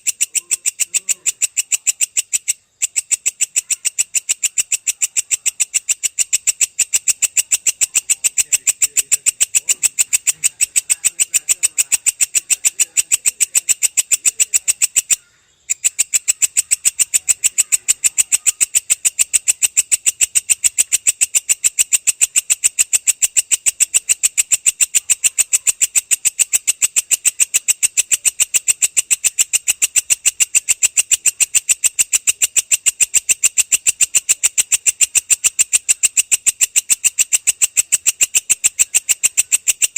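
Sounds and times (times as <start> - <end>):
katydid calling in rapid pulses: 0.0 - 39.9.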